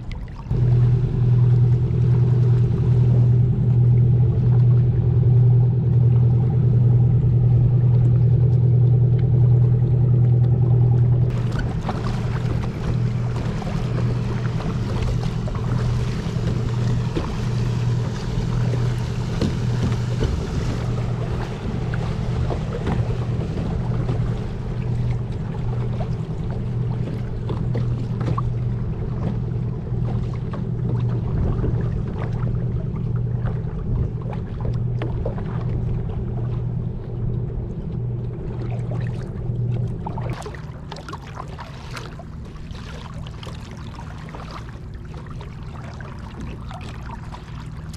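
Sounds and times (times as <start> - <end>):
paddle strokes: 0.0 - 47.9
steady low hum: 0.0 - 47.9
water splashing against hull: 0.0 - 47.9.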